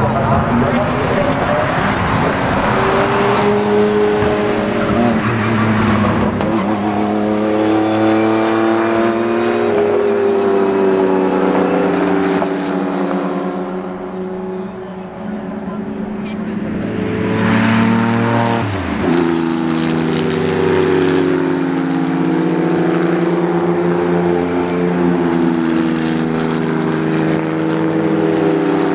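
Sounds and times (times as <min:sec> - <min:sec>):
race cars driving past: 0:00.0 - 0:28.9.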